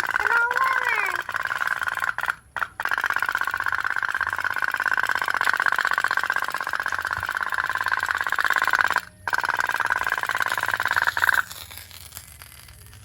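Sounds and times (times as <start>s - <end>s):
toy boat putt-putt popping: 0.0s - 11.6s.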